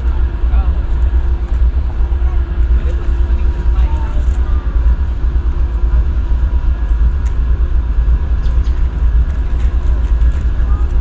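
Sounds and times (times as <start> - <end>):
diesel engine idling: 0.0 - 11.0
faint steady hum: 0.0 - 11.0.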